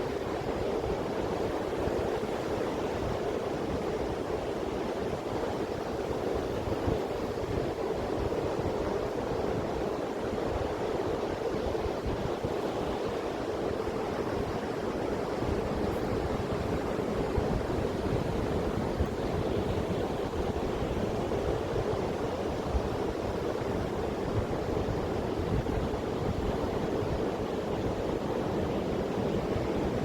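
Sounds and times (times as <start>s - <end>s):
surf washing on sand: 0.0s - 30.0s.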